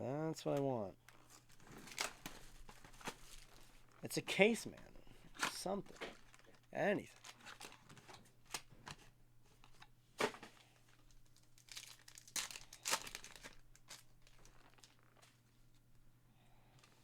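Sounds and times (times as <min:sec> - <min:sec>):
card pack wrappers crinkling: 0:01.1 - 0:15.4
cards being handled: 0:01.1 - 0:15.4.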